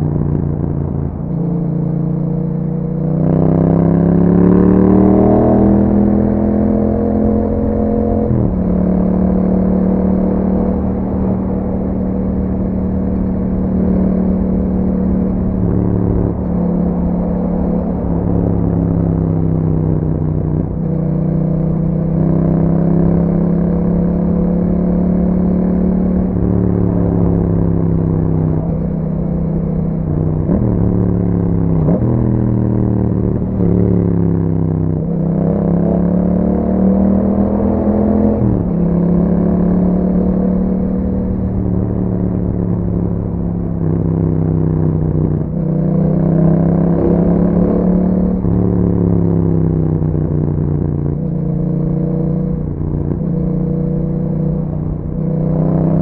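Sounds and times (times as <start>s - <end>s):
motorcycle engine while riding: 0.0s - 56.0s.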